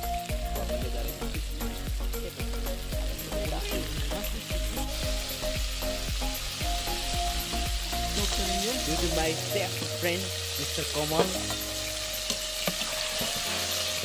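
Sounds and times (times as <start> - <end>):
food deep-frying in oil: 0.0 - 14.0.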